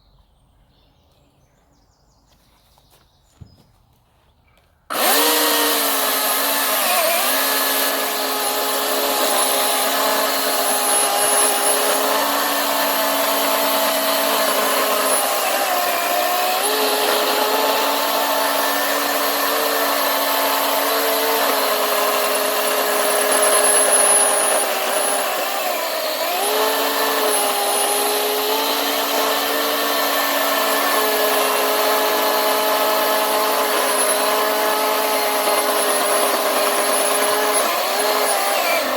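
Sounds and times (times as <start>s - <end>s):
chainsaw cutting through log: 4.9s - 38.9s.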